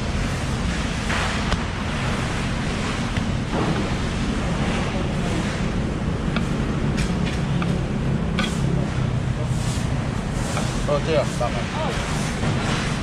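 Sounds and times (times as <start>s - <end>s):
steady rushing background noise: 0.0s - 13.0s.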